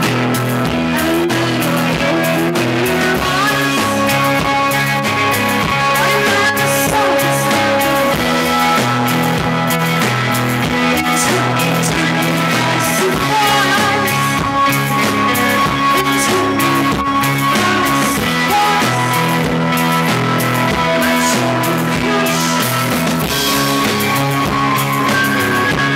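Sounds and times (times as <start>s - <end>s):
bass line: 0.0s - 25.9s
drums: 0.0s - 25.9s
electric guitar held notes: 0.0s - 25.9s.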